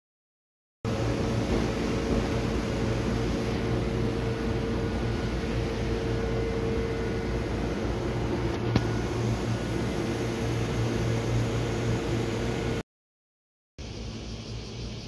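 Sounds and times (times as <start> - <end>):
train equipment hum and whir: 0.9 - 12.8, 13.8 - 15.0.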